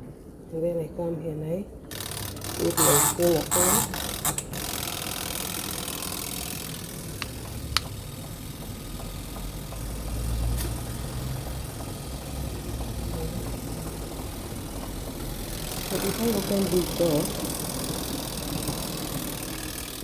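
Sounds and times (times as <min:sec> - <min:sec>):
spin dryer motor hum: 0:01.8 - 0:20.0.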